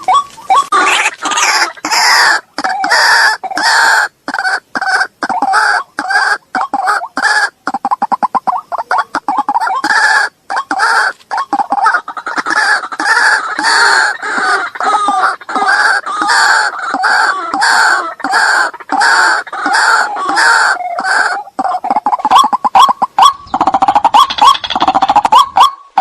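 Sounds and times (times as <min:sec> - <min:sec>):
harsh rasping bird calls: 0:00.0 - 0:26.0.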